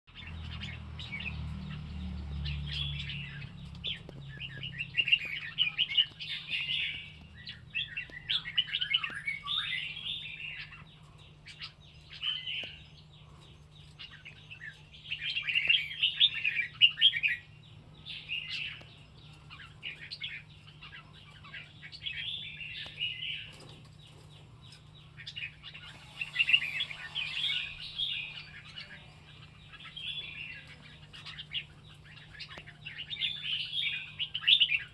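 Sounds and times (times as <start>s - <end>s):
faint low hum: 0.2s - 34.9s.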